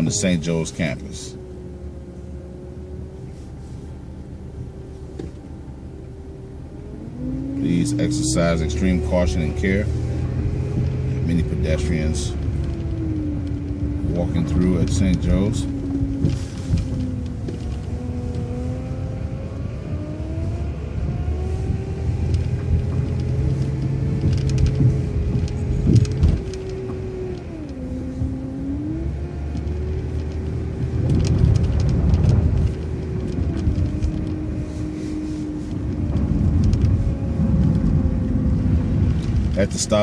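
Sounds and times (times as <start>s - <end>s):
bus engine rumble and whine: 0.0s - 40.0s
bus rattling: 0.0s - 40.0s.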